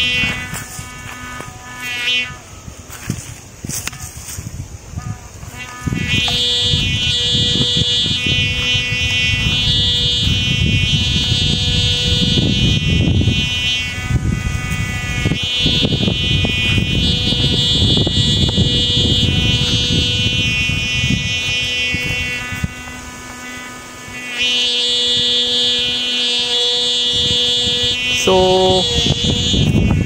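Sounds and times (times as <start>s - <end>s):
kite hummer buzzing: 0.0s - 30.0s
wind rumble on microphone: 0.0s - 30.0s.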